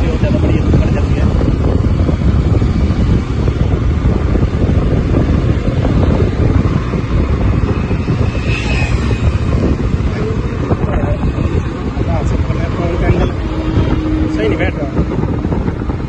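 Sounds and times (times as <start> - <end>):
motorbike engine: 0.0 - 16.0
road noise: 0.0 - 16.0
wind buffeting microphone: 0.0 - 16.0.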